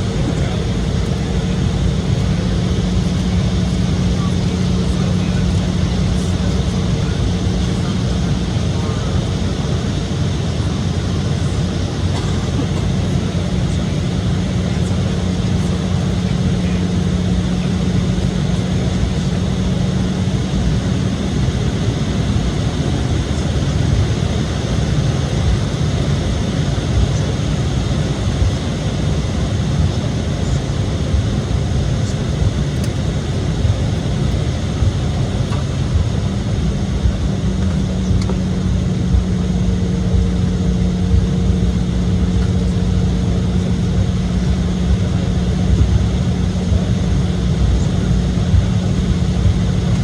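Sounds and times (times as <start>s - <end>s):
jet engine cabin rumble: 0.0s - 50.0s
steady low hum: 0.0s - 50.0s.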